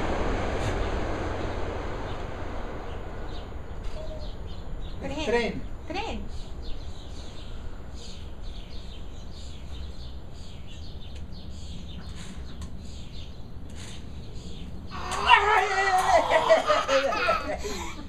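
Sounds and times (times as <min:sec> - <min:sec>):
steady low rumble: 0:00.0 - 0:15.1
birds chirping: 0:00.6 - 0:18.0.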